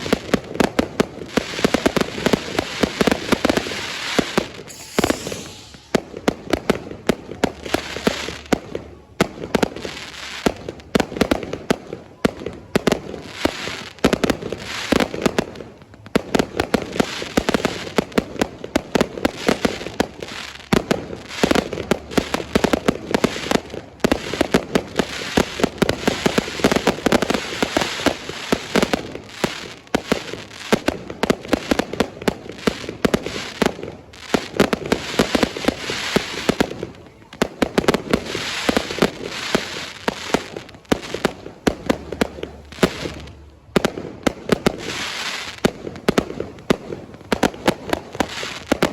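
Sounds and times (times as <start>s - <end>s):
fireworks cracking and banging: 0.0s - 48.9s.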